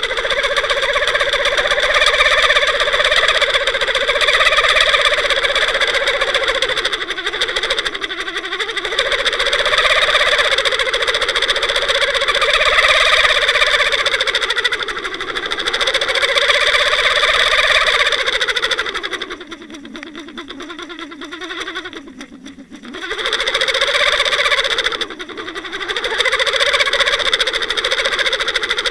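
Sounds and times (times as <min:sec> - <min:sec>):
muffled motor whine underwater: 0:00.0 - 0:28.9.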